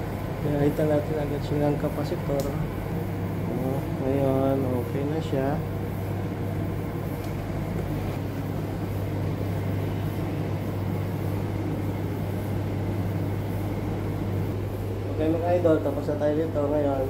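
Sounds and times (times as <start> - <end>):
clothes dryer running: 0.0 - 17.0.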